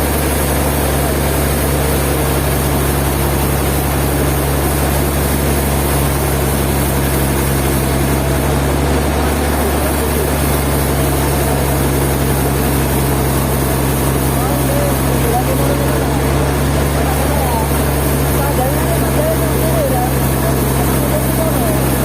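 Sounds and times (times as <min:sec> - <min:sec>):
sawmill engine droning: 0:00.0 - 0:22.0.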